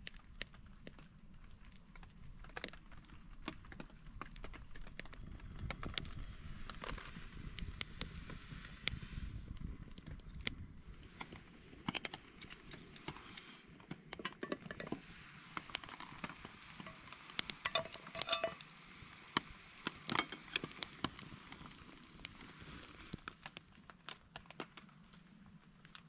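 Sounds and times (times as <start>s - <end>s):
raindrops pattering on a tarp: 0.0s - 26.0s.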